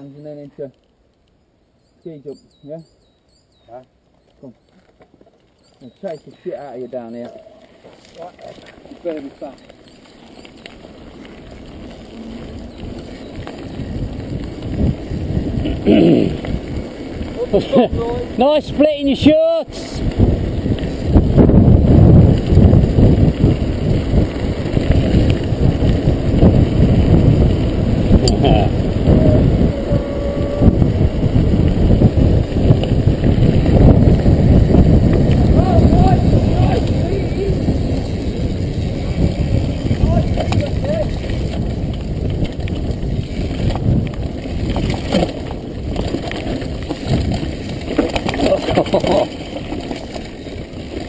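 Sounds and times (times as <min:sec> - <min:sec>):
tyres rolling over gravel: 0:03.8 - 0:51.0
bike clicks and rattles: 0:04.2 - 0:18.8, 0:19.9 - 0:29.9, 0:30.8 - 0:51.0
wind buffeting microphone: 0:05.6 - 0:51.0.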